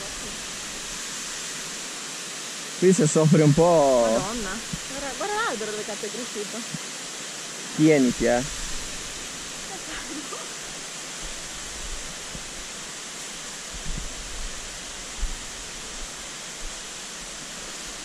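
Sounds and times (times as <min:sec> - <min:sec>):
mountain torrent rushing: 0:00.0 - 0:18.0.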